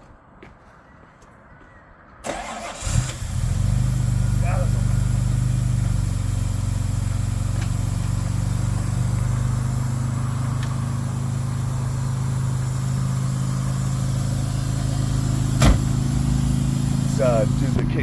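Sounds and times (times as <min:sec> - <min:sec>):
car engine idling: 0:02.3 - 0:18.0.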